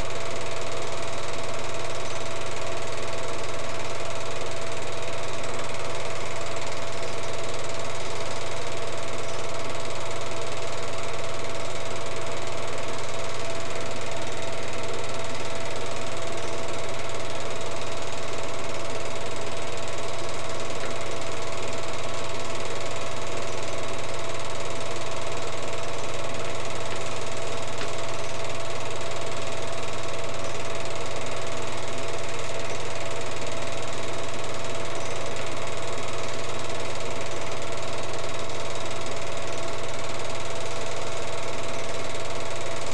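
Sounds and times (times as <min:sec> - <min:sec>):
film projector whirring: 0:00.0 - 0:42.9.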